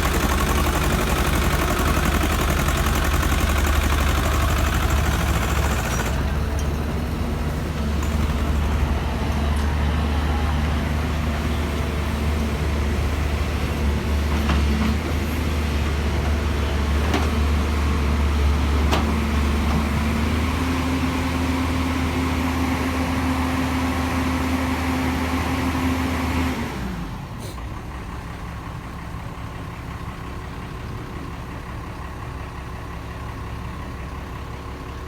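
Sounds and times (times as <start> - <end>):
quieter engine running: 0.0 - 35.0
tractor diesel engine idling: 0.0 - 35.0.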